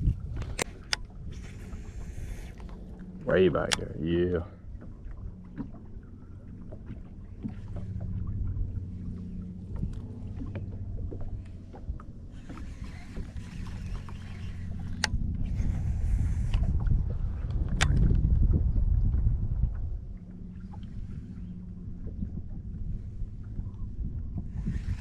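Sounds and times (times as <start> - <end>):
boat motor humming: 0.0 - 25.0
low rumble: 0.0 - 25.0.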